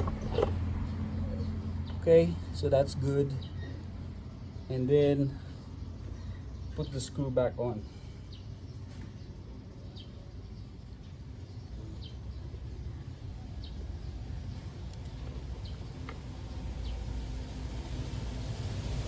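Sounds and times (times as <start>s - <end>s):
bird chirping: 0.0s - 17.1s
steady low rumble: 0.0s - 19.0s.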